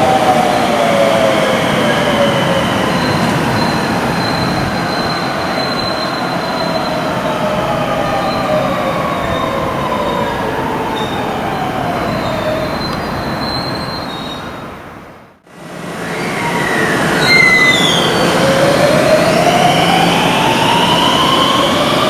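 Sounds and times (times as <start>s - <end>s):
train wheel squeal: 0.0s - 14.8s, 15.9s - 22.0s
electric train motor whine: 0.0s - 22.0s.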